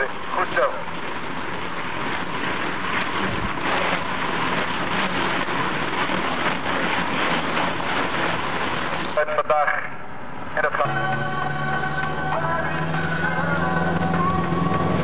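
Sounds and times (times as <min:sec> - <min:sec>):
tyres on the road: 0:00.0 - 0:15.0.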